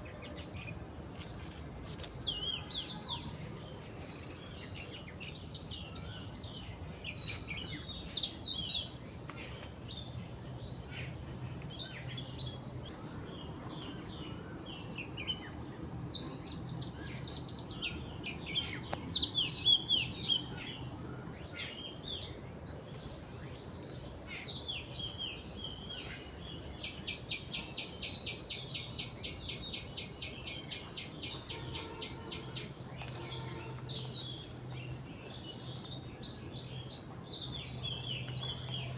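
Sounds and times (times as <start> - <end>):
birds chirping and calling: 0.0 - 15.5, 16.5 - 38.9.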